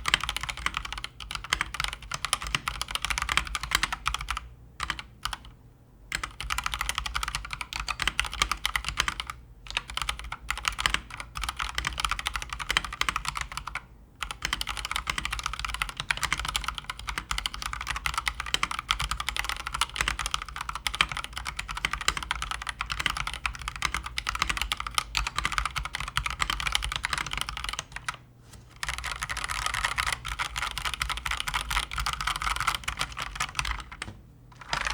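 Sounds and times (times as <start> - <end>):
mechanical keyboard typing: 0.0 - 5.5, 6.1 - 28.2, 28.8 - 34.9.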